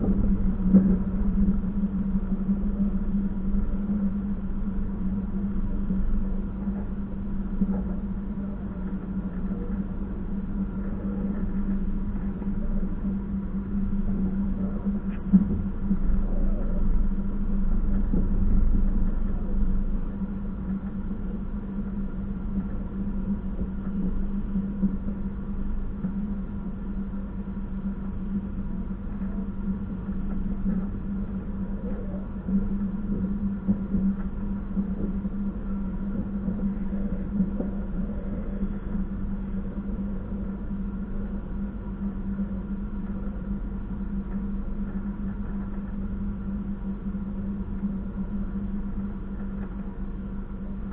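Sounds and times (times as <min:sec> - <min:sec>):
train rumble with hum: 0:00.0 - 0:50.9.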